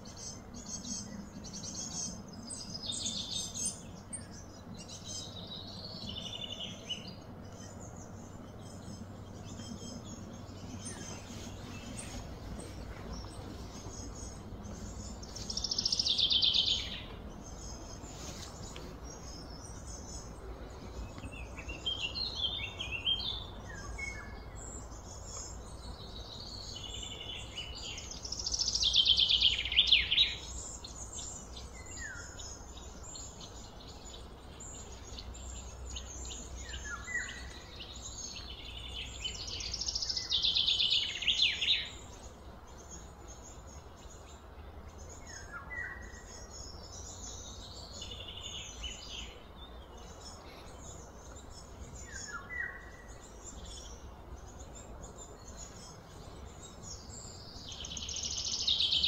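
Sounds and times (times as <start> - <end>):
birds calling and chirping: 0.0 - 59.0
low outdoor background noise: 0.0 - 59.0
rapid trilled birdsong: 0.0 - 59.0.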